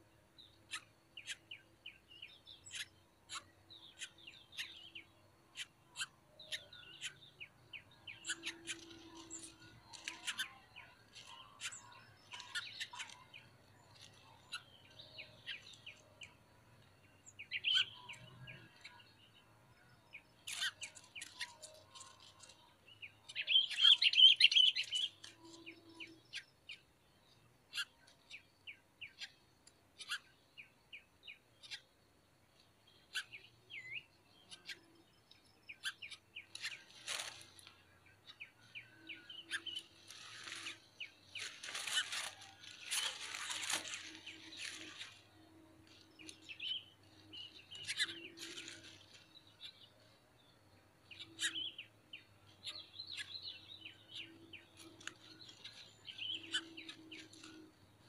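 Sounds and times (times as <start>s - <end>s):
birds chirping: 0.4s - 58.0s.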